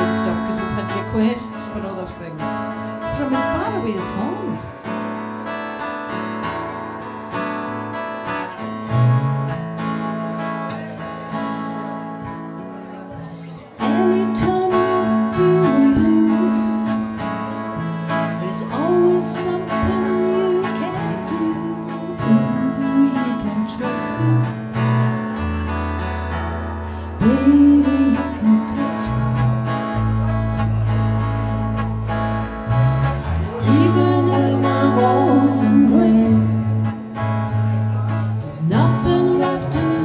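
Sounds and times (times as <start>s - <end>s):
acoustic guitar picked and strummed: 0.0s - 40.0s.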